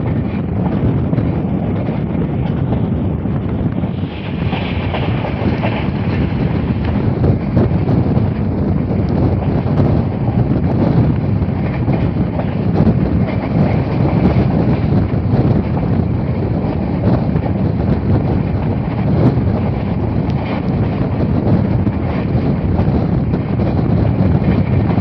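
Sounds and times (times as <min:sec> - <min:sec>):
train rumbling on rails: 0:00.0 - 0:25.0
wind buffeting microphone: 0:00.0 - 0:25.0.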